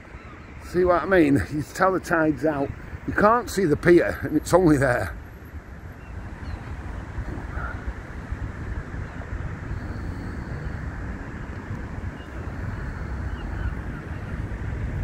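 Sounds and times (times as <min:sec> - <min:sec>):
low outdoor rumble: 0:00.0 - 0:15.0
wind buffeting microphone: 0:00.0 - 0:15.0.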